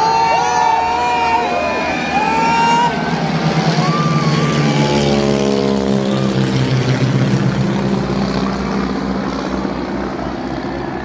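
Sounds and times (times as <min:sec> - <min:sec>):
aircraft engine drone: 0:00.0 - 0:11.0
steady rushing roar: 0:00.0 - 0:11.0.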